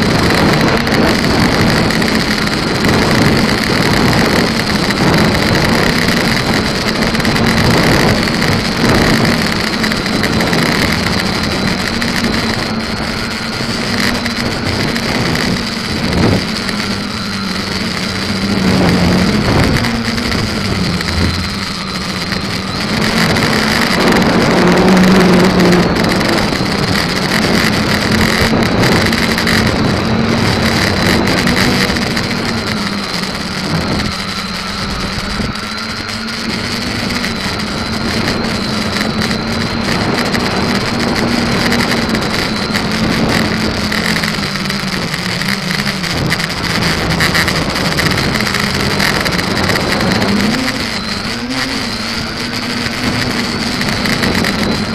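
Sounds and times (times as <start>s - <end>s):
continuous rushing noise: 0.0s - 54.9s
quadcopter motors humming: 0.0s - 54.9s.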